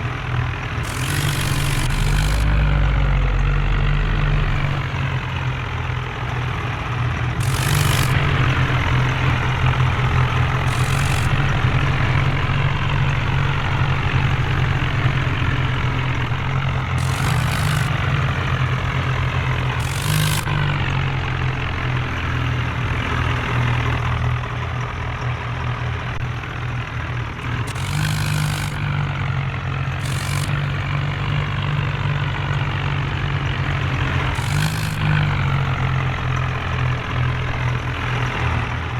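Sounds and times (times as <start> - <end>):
tractor diesel engines under load: 0.0 - 38.9.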